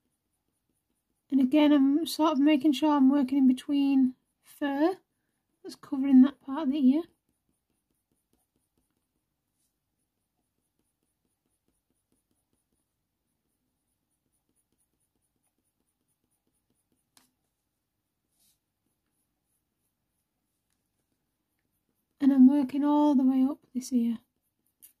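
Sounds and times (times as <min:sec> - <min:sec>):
pencil scratching on paper: 0:00.0 - 0:25.0.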